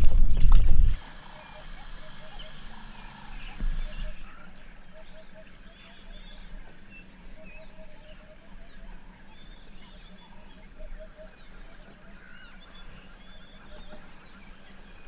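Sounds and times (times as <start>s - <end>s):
steady low hum: 0.0s - 15.0s
birds chirping and whistling: 1.0s - 15.0s.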